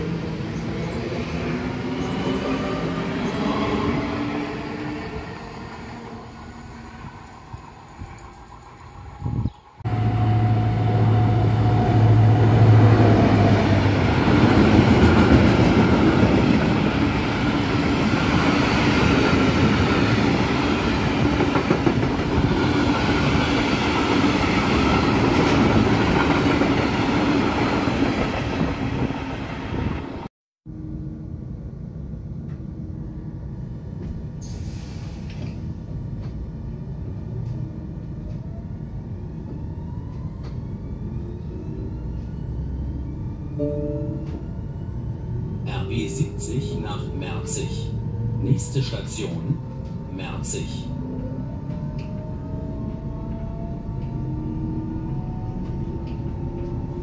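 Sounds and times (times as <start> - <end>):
train rumble: 0.0 - 30.2, 30.8 - 41.0, 44.0 - 57.0
train passing loudly: 0.0 - 30.3, 41.6 - 57.0.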